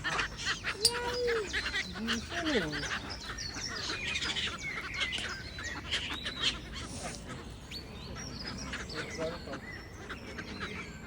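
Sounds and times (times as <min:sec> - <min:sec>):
birds chirping and whistling: 0:00.0 - 0:11.0.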